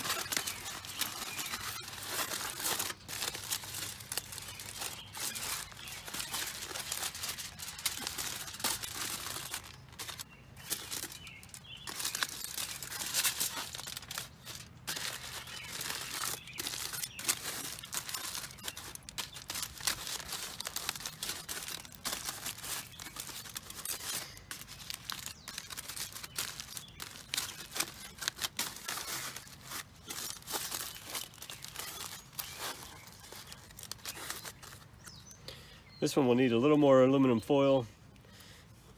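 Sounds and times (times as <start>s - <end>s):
aluminum foil crinkling: 0.0s - 35.3s.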